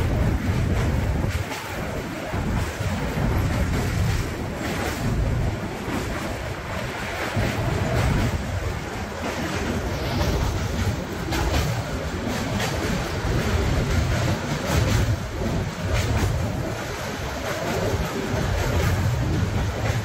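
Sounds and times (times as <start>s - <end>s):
train wheels rumbling on rail: 0.0s - 20.0s
wind on microphone: 0.0s - 20.0s.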